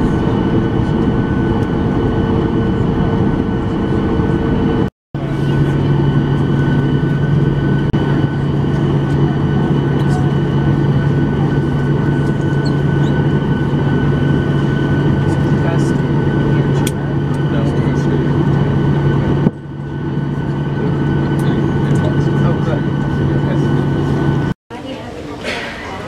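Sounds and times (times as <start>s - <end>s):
jet engines rushing at idle: 0.0s - 24.6s
strong low hum: 0.0s - 24.6s.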